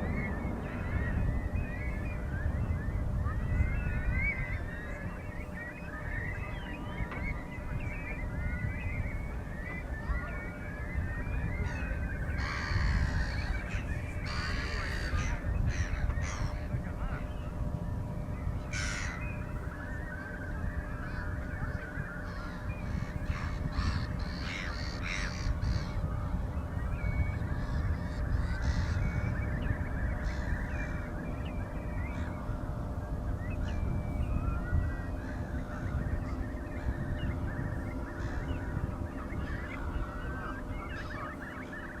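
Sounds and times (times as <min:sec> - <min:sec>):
birds calling and cawing: 0:00.0 - 0:42.0
steady low rumble: 0:00.0 - 0:42.0.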